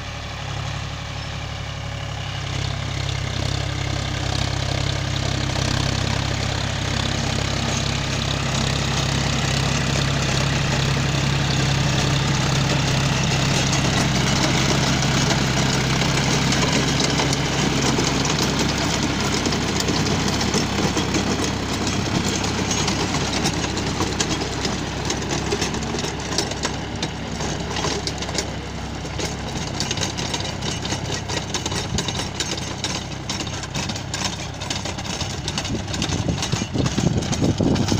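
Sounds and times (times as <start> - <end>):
tractor diesel engine under load: 0.0 - 37.9.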